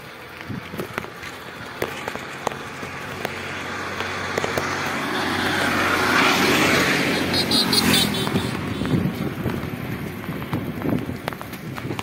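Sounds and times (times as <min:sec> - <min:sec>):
bicycle clicking and rattling: 0:00.0 - 0:12.0
motor vehicle engine: 0:00.0 - 0:12.0.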